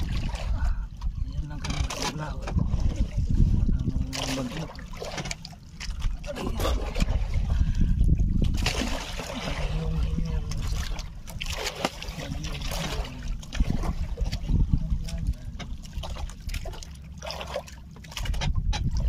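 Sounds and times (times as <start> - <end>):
steady low rumble: 0.0 - 19.0
water splashing against boat hull: 0.0 - 19.0.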